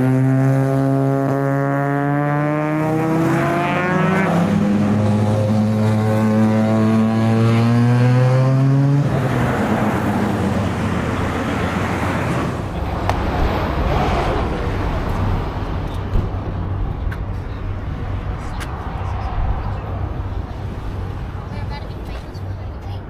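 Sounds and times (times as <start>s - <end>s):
engine exhaust droning: 0.0s - 22.7s
rough engine and road rumble: 0.0s - 23.0s.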